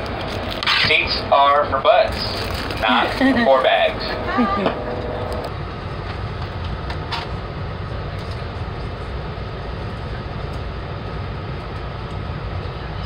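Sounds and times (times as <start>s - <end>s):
train rumble and rushing: 0.0s - 13.0s.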